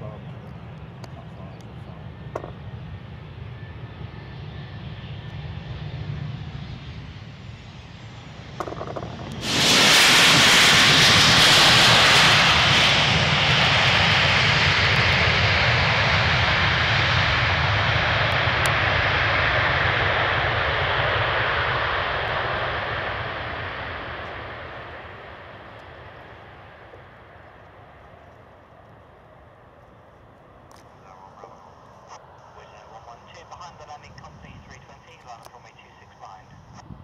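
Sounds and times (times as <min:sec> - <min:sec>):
loud rush of jet engines: 0:00.0 - 0:29.9, 0:30.5 - 0:37.0
low jet engine hum: 0:00.0 - 0:37.0.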